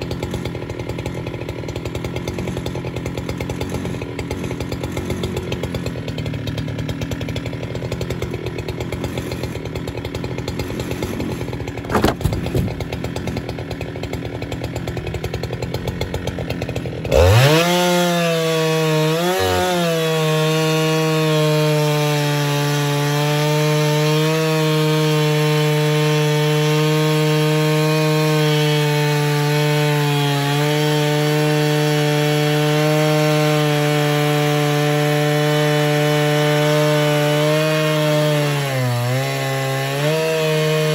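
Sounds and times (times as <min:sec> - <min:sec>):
chainsaw idling and cutting log: 0:00.0 - 0:40.9.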